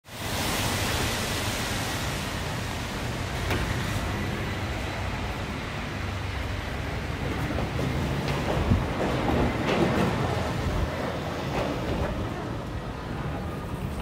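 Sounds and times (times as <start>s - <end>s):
traffic rumble on wet road: 0.0s - 14.0s.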